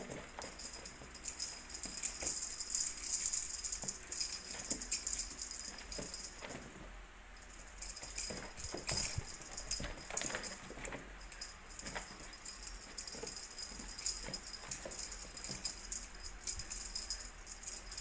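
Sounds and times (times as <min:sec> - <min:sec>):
cat toy jingling and rattling: 0:00.0 - 0:06.8, 0:07.4 - 0:18.0.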